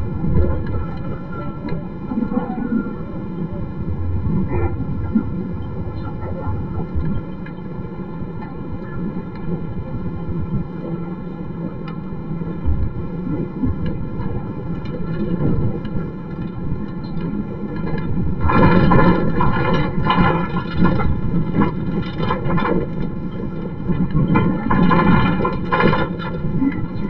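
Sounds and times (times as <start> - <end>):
steady pitched hum: 0.0 - 27.0.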